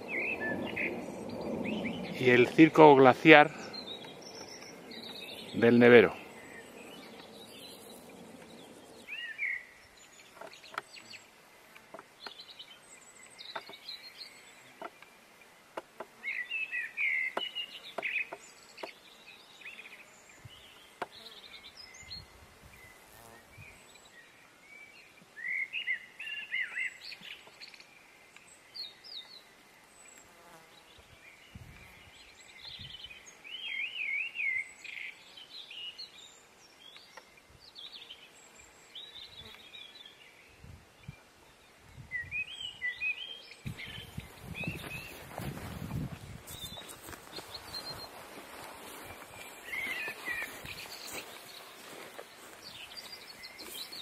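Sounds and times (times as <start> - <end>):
faint outdoor hiss: 0.0 - 54.0.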